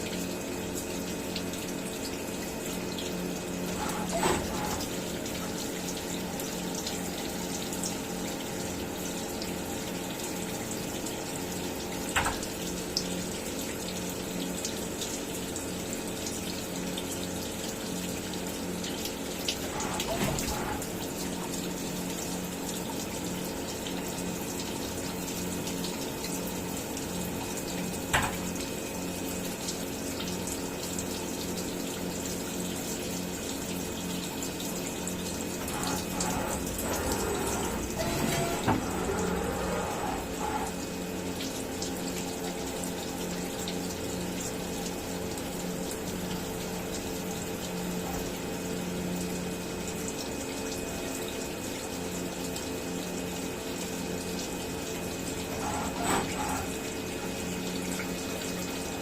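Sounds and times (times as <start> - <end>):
coolant hissing: 0.0 - 59.0
milling machine hum: 0.1 - 30.5, 31.1 - 59.0.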